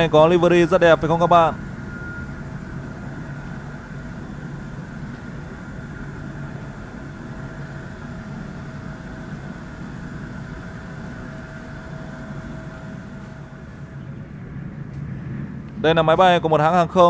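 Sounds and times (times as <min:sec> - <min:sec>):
distant jet engines rumbling: 0:00.0 - 0:17.0.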